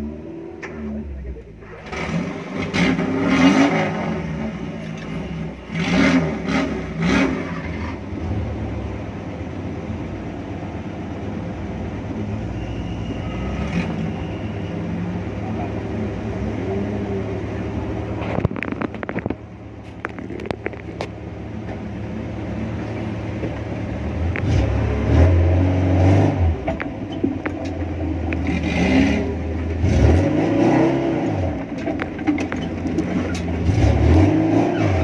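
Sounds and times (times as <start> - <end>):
off-road engines droning: 0.0 - 35.0.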